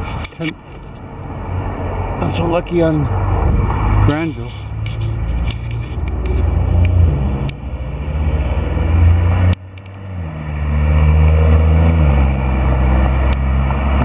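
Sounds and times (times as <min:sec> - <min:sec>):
car engines running: 0:00.0 - 0:14.0.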